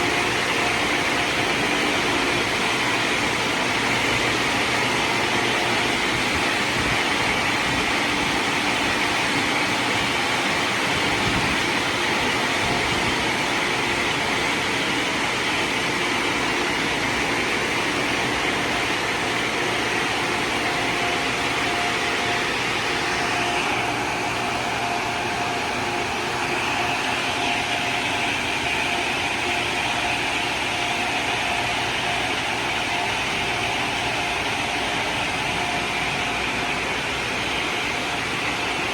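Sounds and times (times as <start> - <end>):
car wash water spray and machinery: 0.0 - 38.9
steady hum: 0.0 - 38.9.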